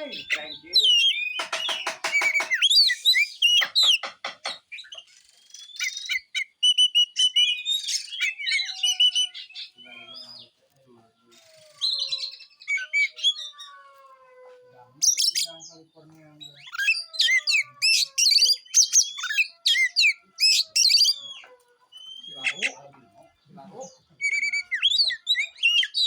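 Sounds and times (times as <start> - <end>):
bird singing varied song: 0.0 - 13.8, 14.8 - 26.0.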